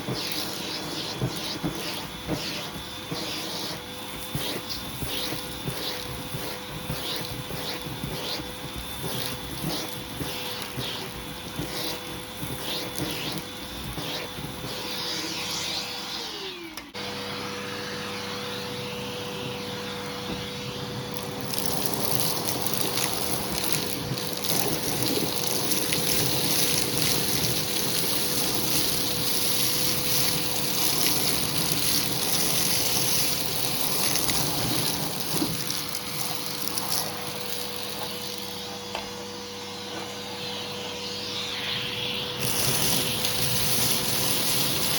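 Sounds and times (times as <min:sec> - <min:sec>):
air rushing through hose tool: 0:00.0 - 0:17.0, 0:21.1 - 0:44.9
vacuum cleaner motor whine: 0:00.0 - 0:44.9.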